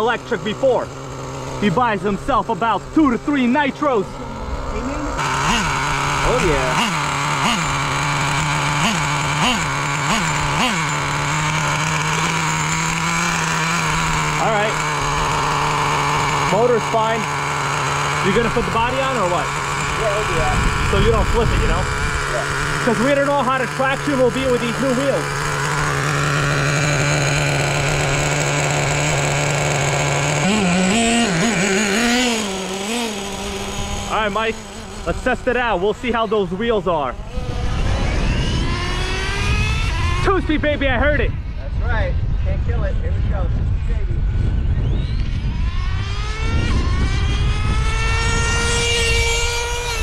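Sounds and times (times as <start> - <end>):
nitro engine idling and revving: 0.0 - 50.0.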